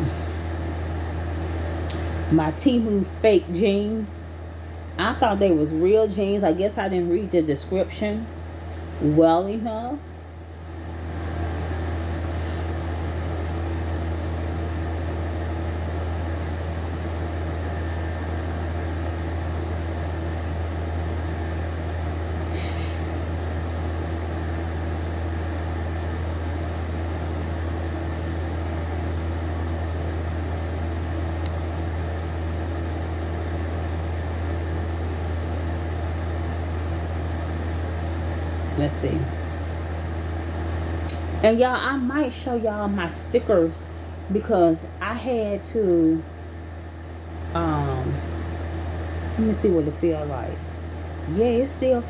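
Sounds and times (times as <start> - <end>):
lamp humming: 0.0 - 52.0.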